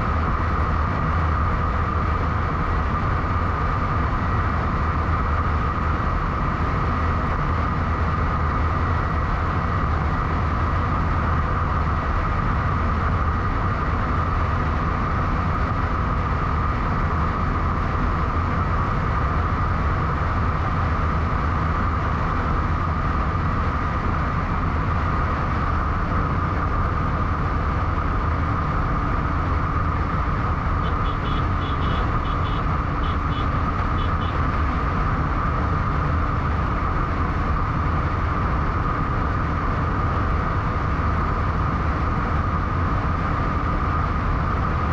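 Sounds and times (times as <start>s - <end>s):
bike road noise: 0.0s - 44.9s.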